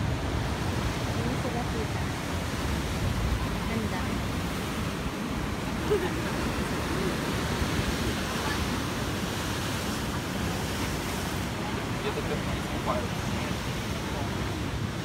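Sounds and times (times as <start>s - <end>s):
sea surf breaking against rocks: 0.0s - 15.0s.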